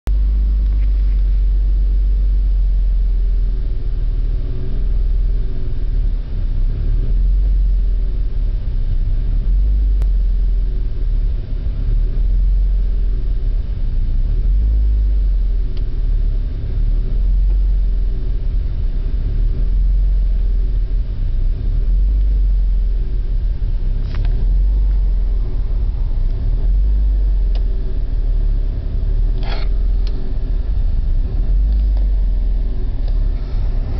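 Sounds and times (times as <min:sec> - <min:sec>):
car engine idling rough: 0:00.0 - 0:33.9.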